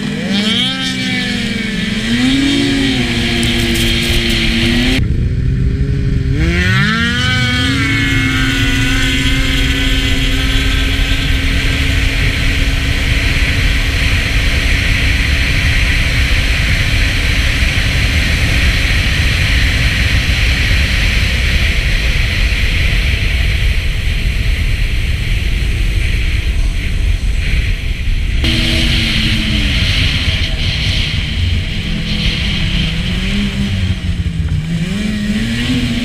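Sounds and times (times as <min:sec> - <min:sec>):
snowmobile engine rumble: 0:00.0 - 0:36.0
wind noise on microphone: 0:01.1 - 0:36.0.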